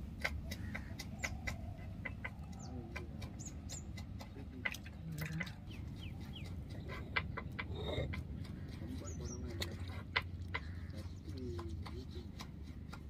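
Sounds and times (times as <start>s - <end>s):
birds chirping and clucking: 0.0s - 13.0s
low background rumble: 0.0s - 13.0s.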